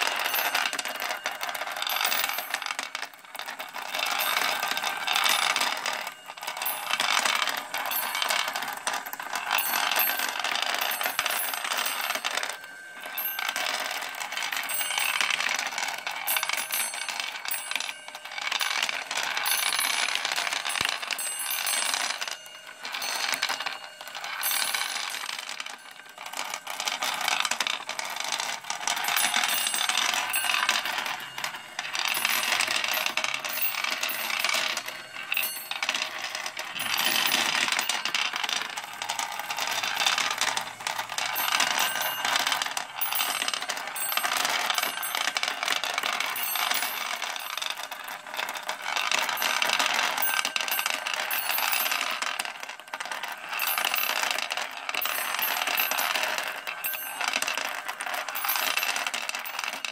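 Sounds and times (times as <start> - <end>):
steel balls rattling in plastic track: 0.0 - 59.9.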